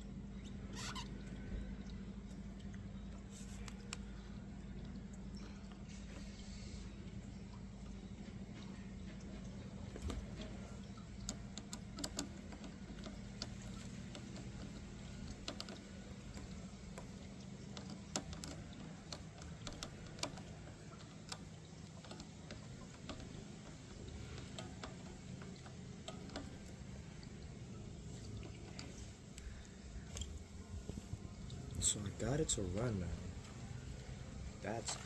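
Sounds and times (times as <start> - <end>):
faint low hum: 0.0 - 35.0
light clicks and taps: 1.8 - 35.0.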